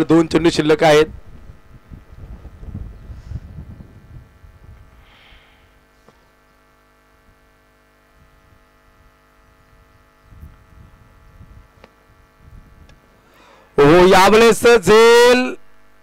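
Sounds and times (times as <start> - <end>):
faint electrical mains hum: 0.0 - 16.0.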